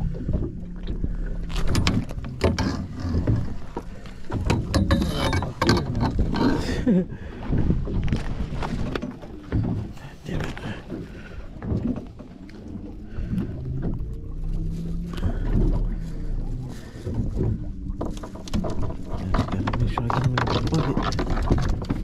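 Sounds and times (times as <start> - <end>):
knocks and clicks of fish handling: 0.0 - 6.6, 7.4 - 12.4, 13.1 - 22.0.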